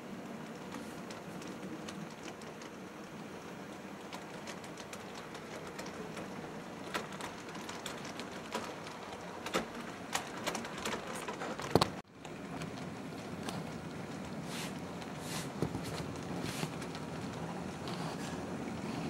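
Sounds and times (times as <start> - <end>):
model train motors rattling: 0.0 - 19.0
wheels clicking over rail joints: 0.0 - 19.0.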